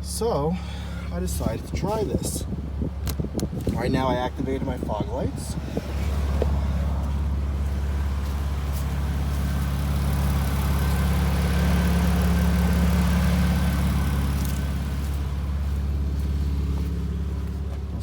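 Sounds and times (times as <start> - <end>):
minivan engine idling: 0.0 - 18.0.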